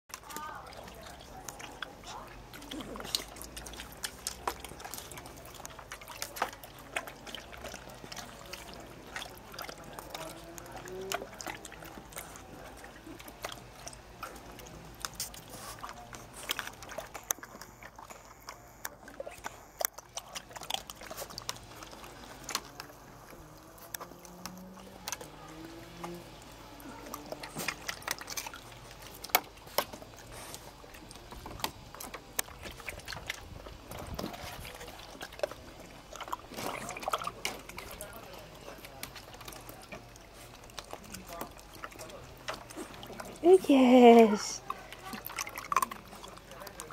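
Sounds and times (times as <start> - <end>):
dogs snapping at water: 0.1 - 46.9
water splashing in paddling pool: 0.1 - 46.9.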